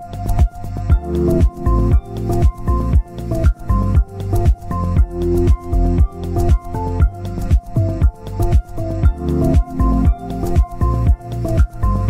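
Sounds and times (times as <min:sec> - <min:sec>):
deep kick drum beat: 0:00.0 - 0:12.0
electronic music: 0:00.0 - 0:12.0.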